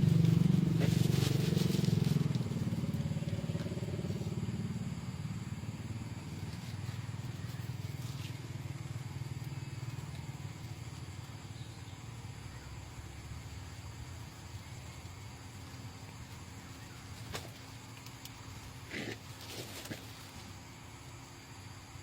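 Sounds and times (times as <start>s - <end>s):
low pulsing mechanical drone: 0.0s - 22.0s.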